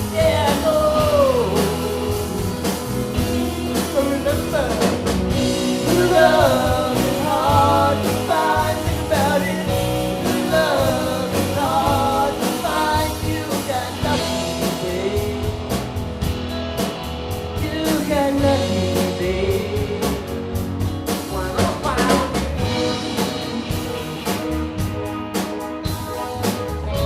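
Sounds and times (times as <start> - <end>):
person singing: 0.0 - 15.8, 17.6 - 20.5, 21.2 - 24.6
bass guitar: 0.0 - 27.0
drum kit beat: 0.0 - 27.0
electric guitar: 0.0 - 27.0.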